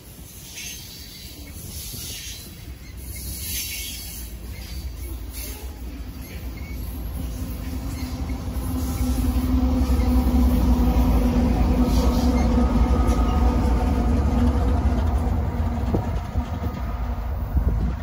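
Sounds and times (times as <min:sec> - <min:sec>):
diesel locomotive engines droning: 0:00.0 - 0:18.0
wheels rumbling on rail: 0:00.0 - 0:18.0.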